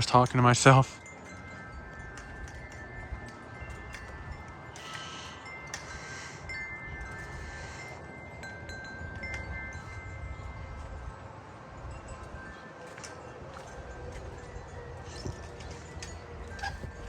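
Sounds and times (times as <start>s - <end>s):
metal wind chimes ringing: 0.0s - 17.0s.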